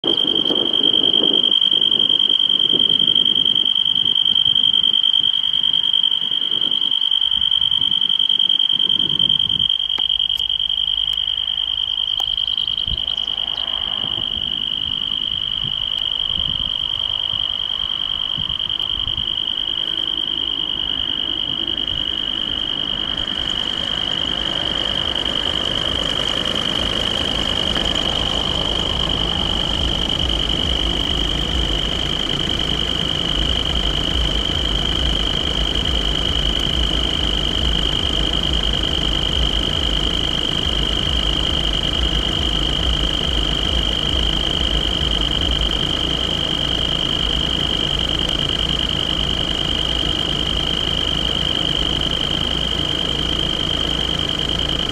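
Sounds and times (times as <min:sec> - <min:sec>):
level crossing warning tone: 0:00.0 - 0:54.9
train rumble: 0:06.3 - 0:54.9.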